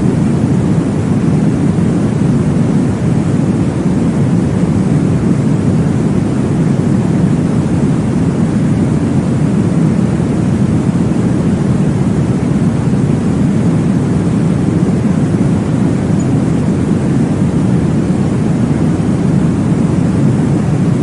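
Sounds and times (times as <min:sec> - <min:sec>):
deep whooshing white noise: 0:00.0 - 0:21.0.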